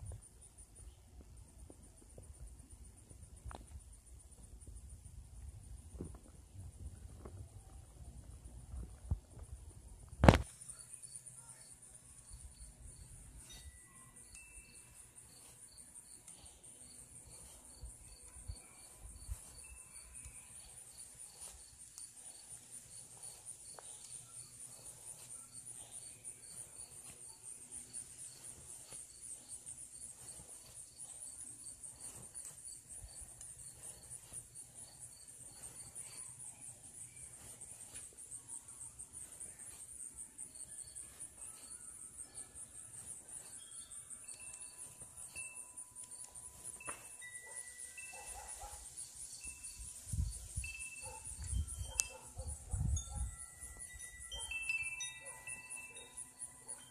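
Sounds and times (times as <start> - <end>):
repeating insect chirp: 10.2 - 56.9.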